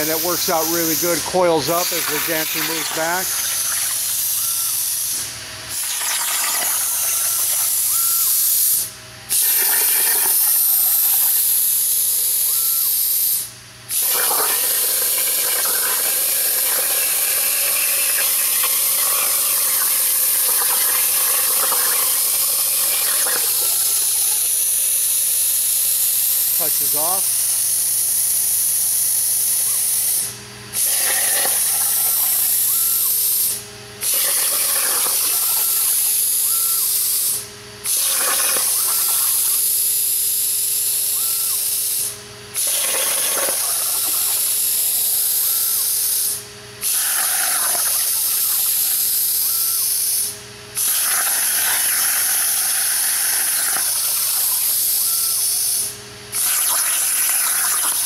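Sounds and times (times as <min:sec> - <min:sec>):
plasma cutter hissing: 0:00.0 - 0:58.0.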